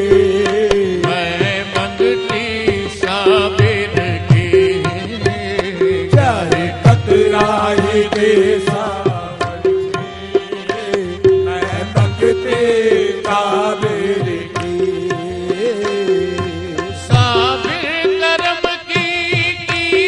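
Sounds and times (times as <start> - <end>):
harmonium notes: 0.0 - 20.0.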